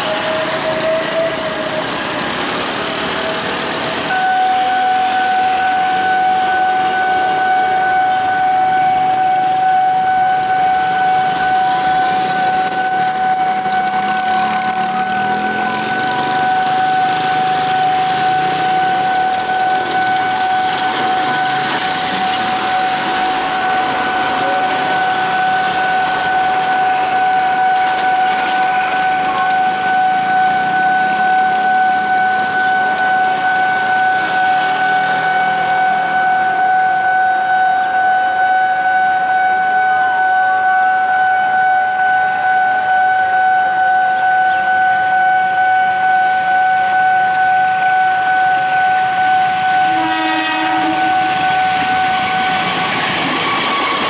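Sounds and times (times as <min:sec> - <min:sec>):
diesel locomotive engine: 0:00.0 - 0:54.0
level crossing alarm tone: 0:00.0 - 0:54.0.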